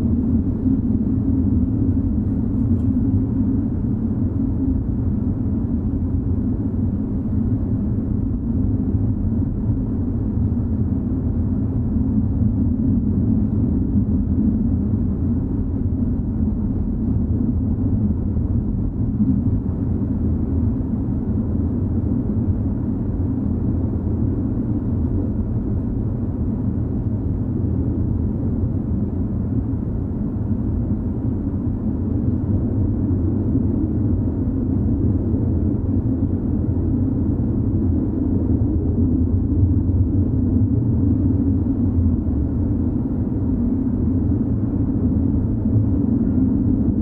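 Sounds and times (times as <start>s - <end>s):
low rumbling drone: 0.0s - 47.0s.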